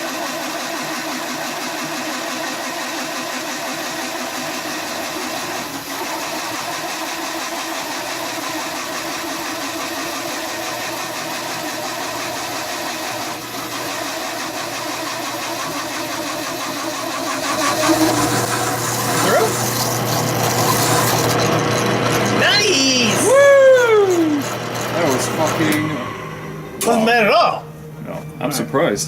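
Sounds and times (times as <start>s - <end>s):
drill press drilling steel: 0.0s - 27.2s.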